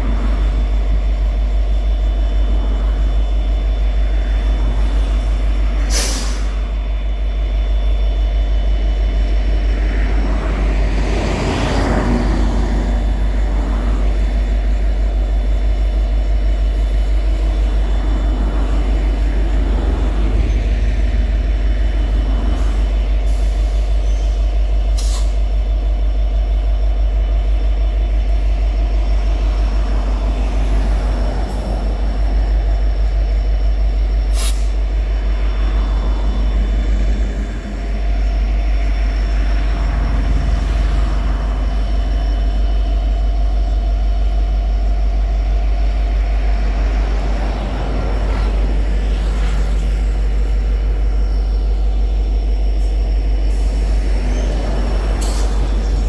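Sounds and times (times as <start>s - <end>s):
locomotive diesel engine rumbling: 0.0s - 56.0s.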